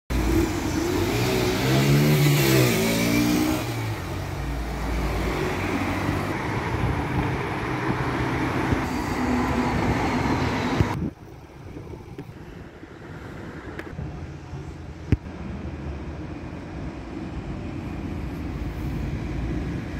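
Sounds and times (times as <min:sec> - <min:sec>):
cars passing: 0:00.1 - 0:19.9
tyre and engine noise: 0:00.1 - 0:19.9.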